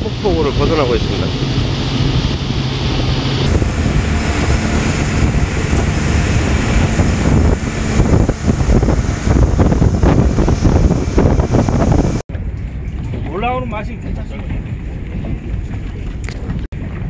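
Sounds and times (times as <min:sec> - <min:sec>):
outboard motor running: 0:00.0 - 0:17.0
water rushing along hull: 0:00.0 - 0:17.0
wind buffeting microphone: 0:00.0 - 0:17.0.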